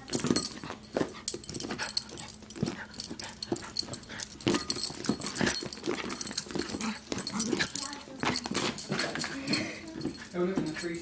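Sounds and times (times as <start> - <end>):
scuffling and knocks: 0.0 - 11.0.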